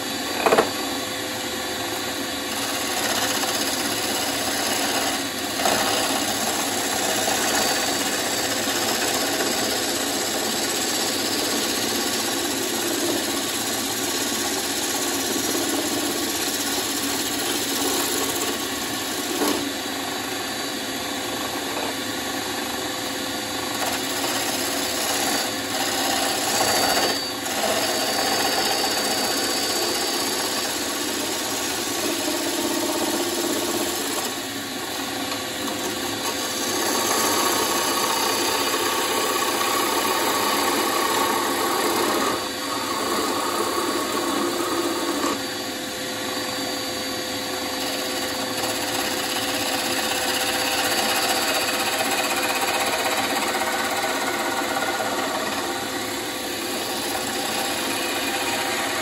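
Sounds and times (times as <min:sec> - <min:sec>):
wood lathe gouge scraping wood: 0:01.9 - 0:45.6, 0:46.3 - 0:59.0.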